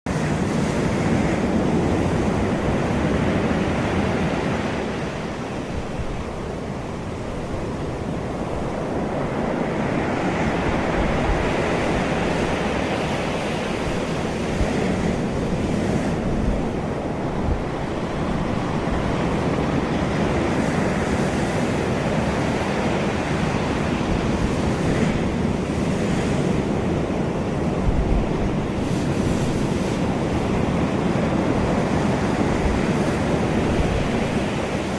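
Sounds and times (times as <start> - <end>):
surf breaking on beach: 0.1 - 34.9
wind rumble on microphone: 0.1 - 34.9.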